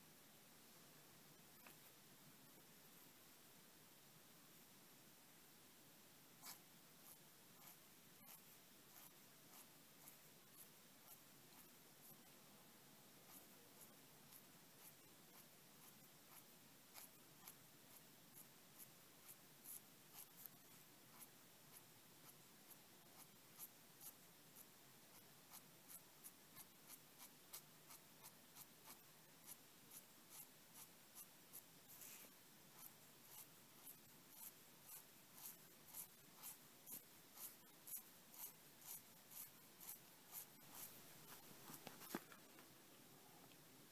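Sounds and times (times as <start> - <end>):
pen nib scratching paper: 6.4 - 12.4, 13.1 - 42.5.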